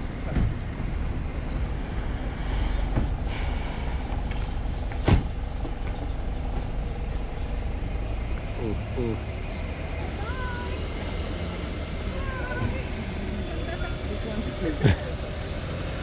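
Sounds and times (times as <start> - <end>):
road traffic rumble: 0.0 - 16.0
vehicle passing: 0.0 - 16.0.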